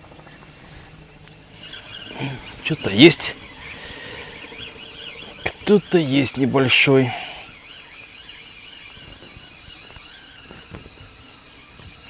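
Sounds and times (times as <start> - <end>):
insect chirring: 1.5 - 12.0
wavering whistle-like tone: 1.6 - 12.0.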